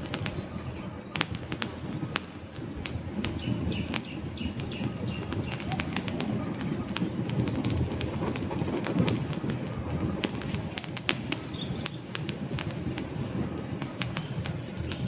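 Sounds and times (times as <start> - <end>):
campfire flames rumbling: 0.0 - 15.0
crackles and pops from logs: 0.0 - 15.0.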